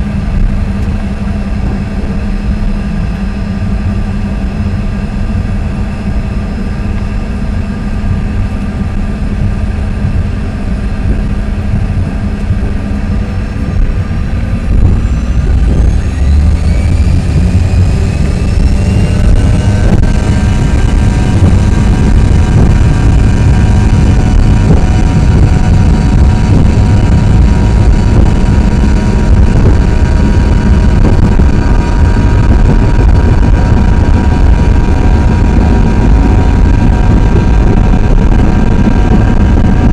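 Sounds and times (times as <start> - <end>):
aircraft take-off roll rumble: 0.0 - 39.9
jet engines spooling up: 0.0 - 39.9.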